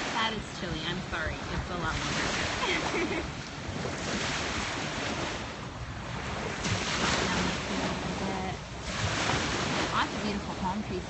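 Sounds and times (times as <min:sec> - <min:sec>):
small sea waves breaking: 0:00.0 - 0:11.0
wind buffeting microphone: 0:00.0 - 0:11.0.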